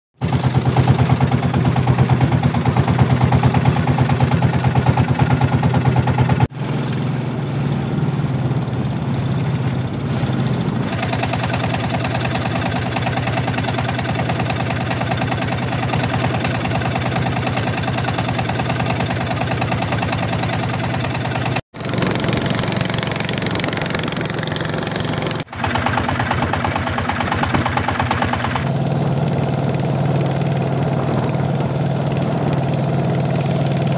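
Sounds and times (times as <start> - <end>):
small boat engine running: 0.2 - 33.9.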